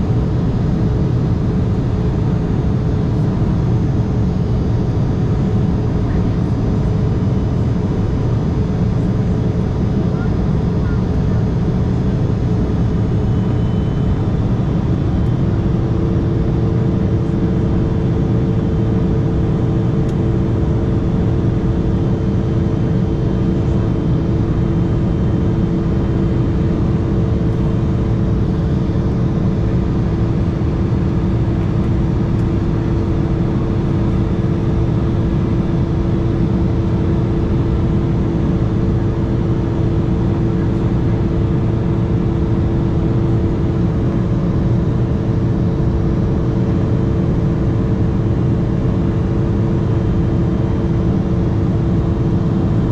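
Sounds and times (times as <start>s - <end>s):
jet engines droning: 0.0s - 52.9s.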